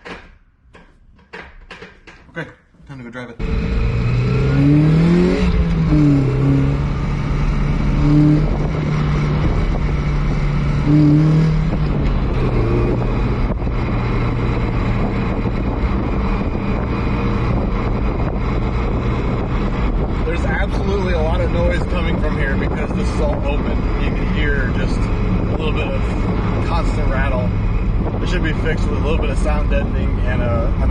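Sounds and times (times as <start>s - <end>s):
car engine revving through gears: 3.4s - 30.9s.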